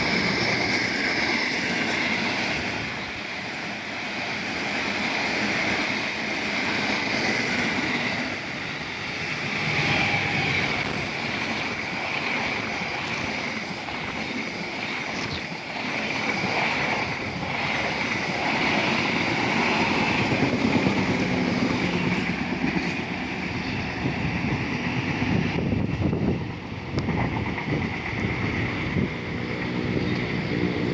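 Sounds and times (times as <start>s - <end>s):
train wheel and rail noise: 0.0s - 30.9s.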